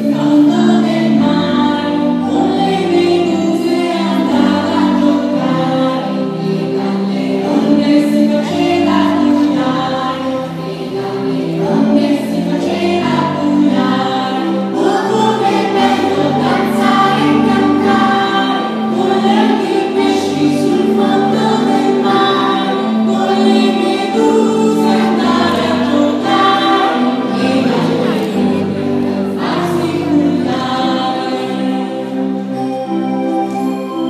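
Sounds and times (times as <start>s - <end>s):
choir singing: 0.0s - 34.0s
musical accompaniment: 0.0s - 34.0s.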